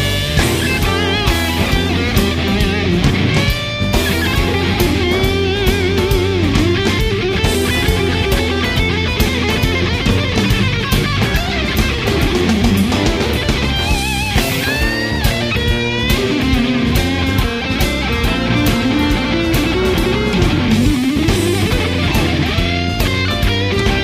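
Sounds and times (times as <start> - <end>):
high bending guitar lines: 0.0 - 24.0
rock music: 0.0 - 24.0.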